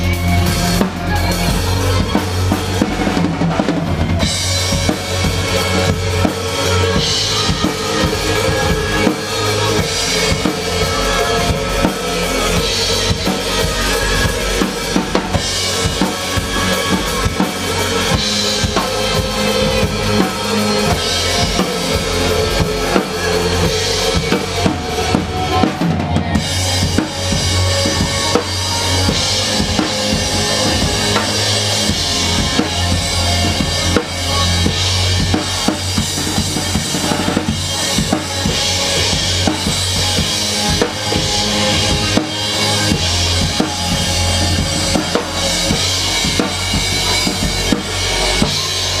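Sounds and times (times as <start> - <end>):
acoustic drum kit playing: 0.0 - 49.0.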